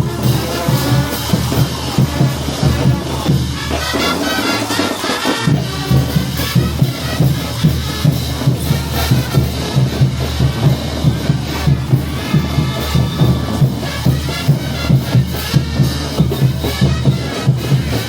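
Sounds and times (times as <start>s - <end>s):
brass band playing a march: 0.0s - 18.0s
quick drum beat: 0.0s - 18.0s.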